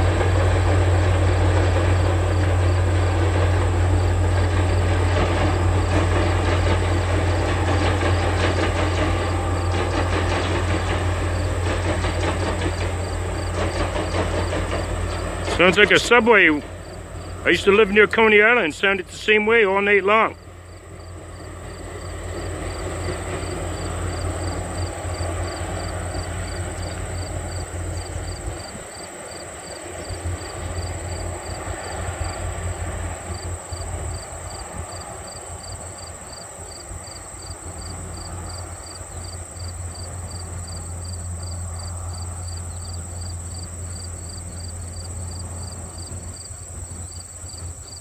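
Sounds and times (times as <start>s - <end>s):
train rumbling over steel trestle: 0.0s - 48.0s.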